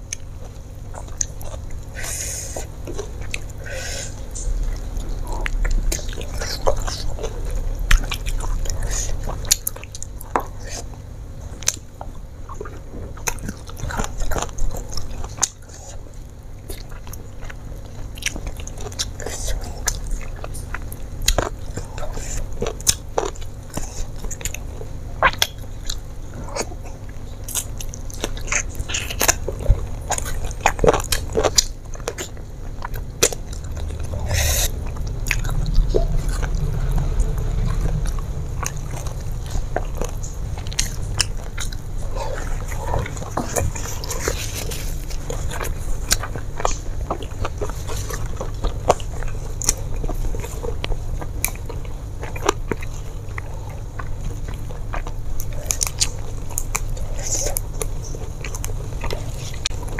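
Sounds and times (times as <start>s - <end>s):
person chewing fried chicken: 0.0s - 59.9s.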